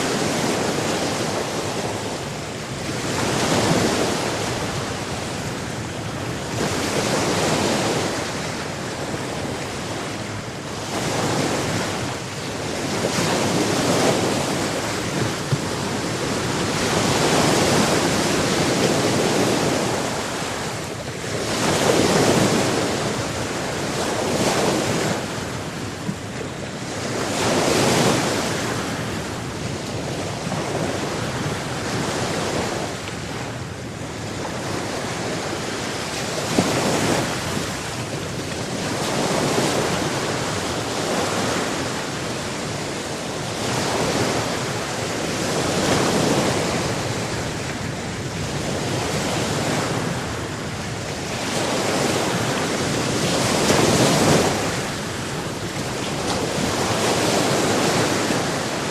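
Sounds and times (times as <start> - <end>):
waves breaking on shore: 0.0 - 58.9
wind noise on microphone: 0.0 - 58.9.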